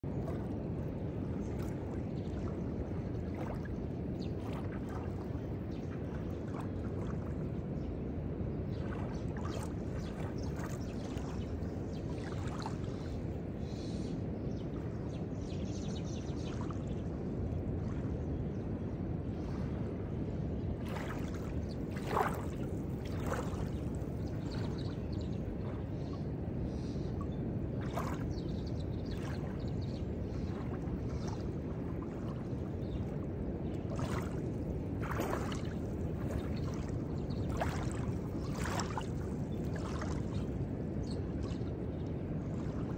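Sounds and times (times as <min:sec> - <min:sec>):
water lapping on shore: 0:00.0 - 0:42.9.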